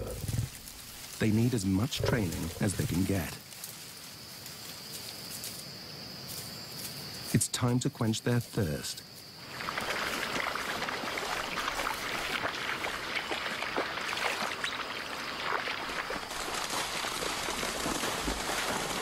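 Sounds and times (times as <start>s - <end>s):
animals walking through dry grass: 0.0s - 7.4s, 8.4s - 19.0s.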